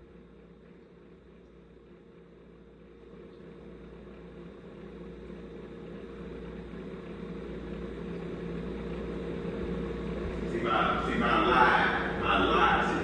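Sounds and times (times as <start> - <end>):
motor-like hum: 0.0 - 13.0.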